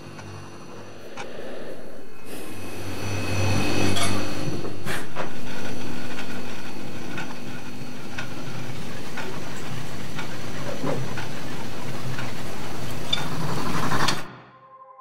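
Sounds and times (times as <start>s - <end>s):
low electronic drone: 0.0s - 15.0s.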